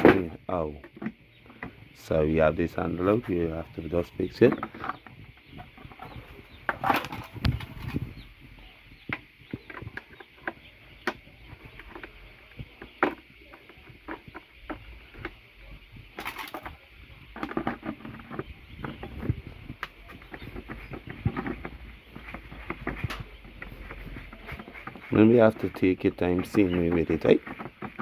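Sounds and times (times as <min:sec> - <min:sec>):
baby chicks peeping: 0:00.0 - 0:28.0
rustling: 0:00.0 - 0:28.0.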